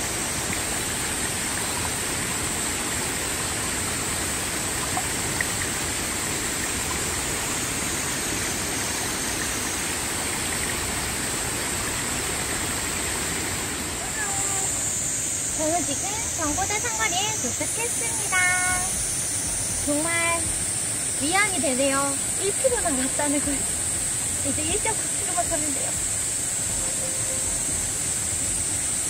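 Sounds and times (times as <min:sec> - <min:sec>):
stream rushing: 0:00.0 - 0:29.0.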